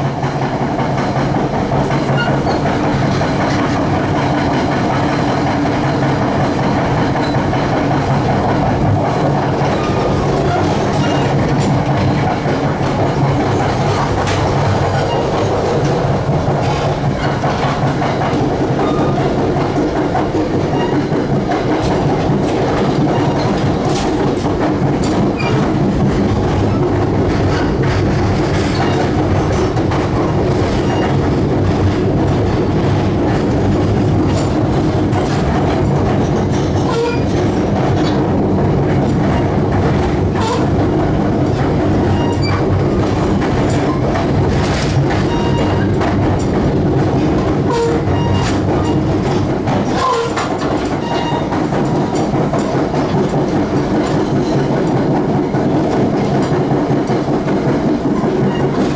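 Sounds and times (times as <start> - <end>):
train rumble: 0.0 - 58.9
wheels clicking over track: 0.2 - 58.9.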